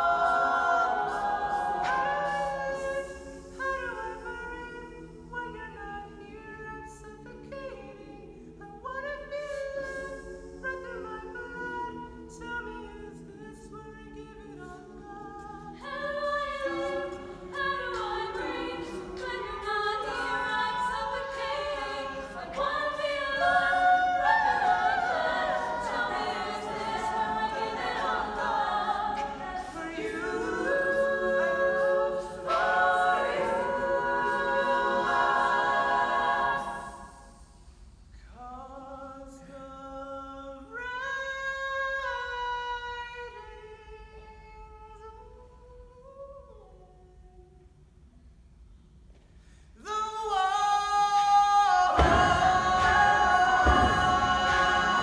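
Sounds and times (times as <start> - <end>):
choir singing a cappella: 0.0 - 47.9, 49.8 - 55.0.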